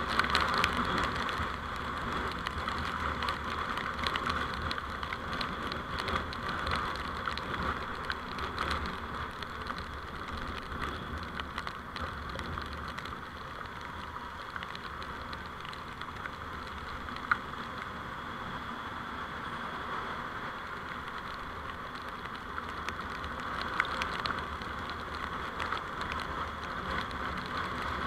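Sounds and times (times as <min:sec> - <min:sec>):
light ticks: 0:00.0 - 0:17.9, 0:20.7 - 0:28.0
vehicle road noise: 0:00.0 - 0:28.0.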